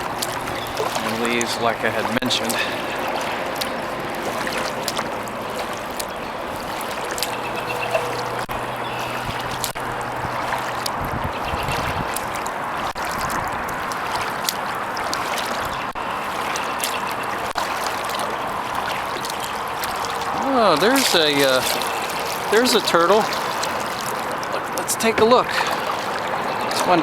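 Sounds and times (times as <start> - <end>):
water dripping off paddle: 0.0 - 27.0
water splashing at hull: 0.0 - 27.0.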